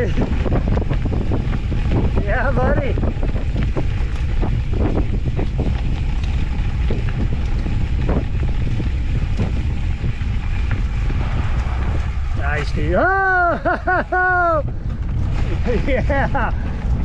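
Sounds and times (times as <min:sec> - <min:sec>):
knocks and rattles over rough ground: 0:00.0 - 0:17.0
wind buffeting microphone: 0:00.0 - 0:17.0.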